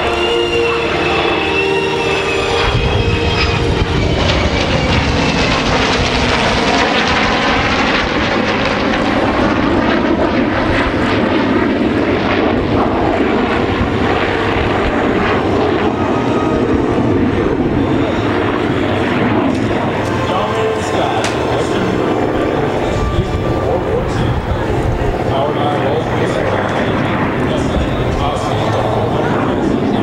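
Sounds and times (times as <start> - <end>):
aircraft engines flying past: 0.0 - 30.0.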